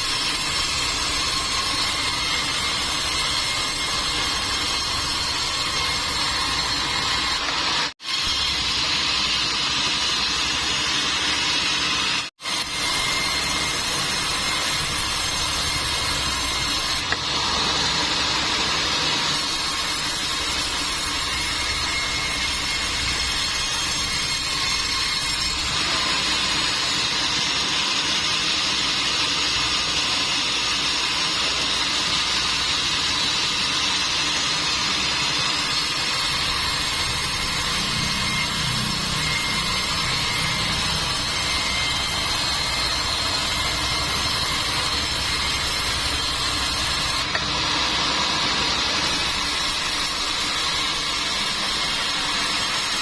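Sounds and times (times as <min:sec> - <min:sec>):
sawmill machinery hissing: 0:00.0 - 0:53.0.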